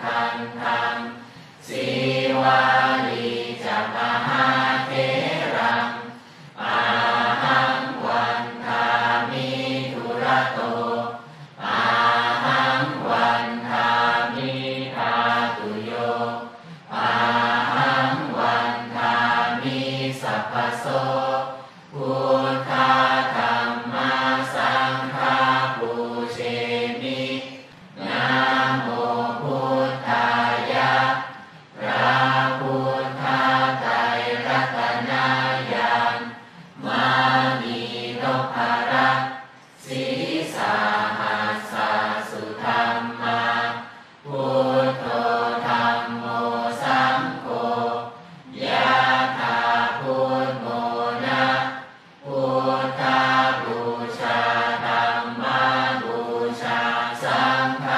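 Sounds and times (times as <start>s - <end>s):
group chanting in unison: 0.0s - 57.9s.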